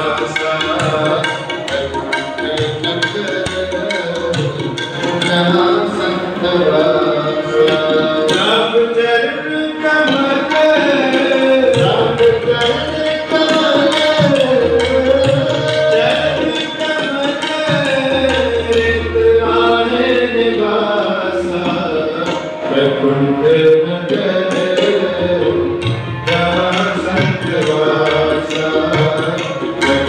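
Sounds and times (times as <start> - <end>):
harmonium: 0.0 - 30.0
tabla: 0.0 - 30.0.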